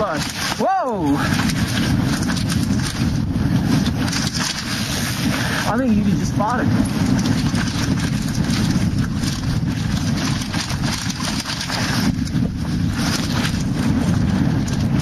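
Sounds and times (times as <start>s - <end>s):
bike rattling and knocking: 0.0s - 15.0s
wind buffeting microphone: 0.0s - 15.0s.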